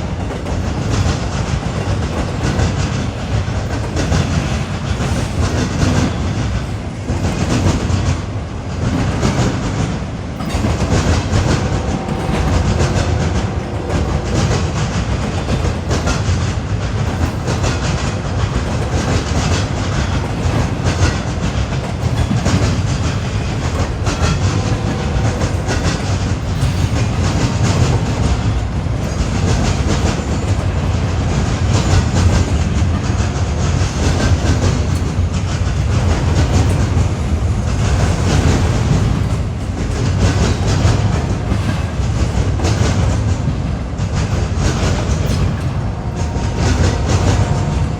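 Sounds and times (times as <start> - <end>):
train cars rumbling past: 0.0 - 47.9
wheels clacking on rail joints: 0.0 - 47.9.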